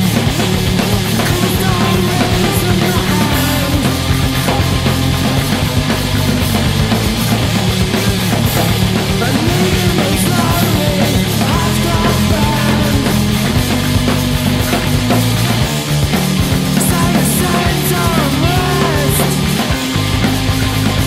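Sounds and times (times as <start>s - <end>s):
loud rock music: 0.0s - 21.0s.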